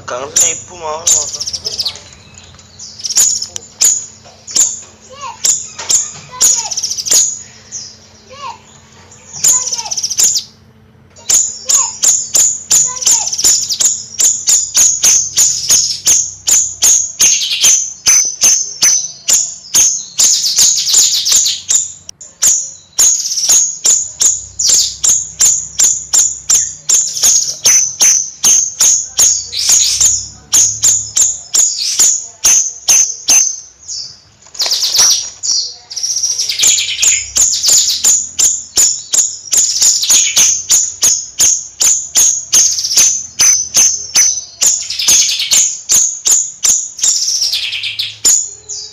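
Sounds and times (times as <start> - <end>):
songbird chattering song: 0.0 - 48.9.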